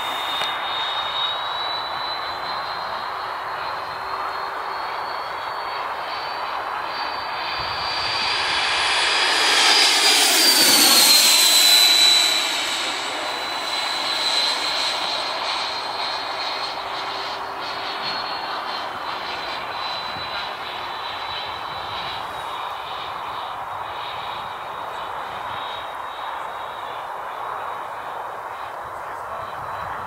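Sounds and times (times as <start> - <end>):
model jet fan whining: 0.0 - 30.0.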